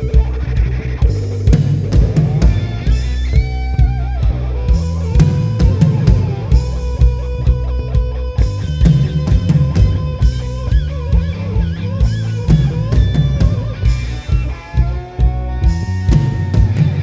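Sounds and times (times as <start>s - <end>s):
bass: 0.0s - 17.0s
drum beat: 0.0s - 17.0s
electric guitar lead: 0.0s - 17.0s.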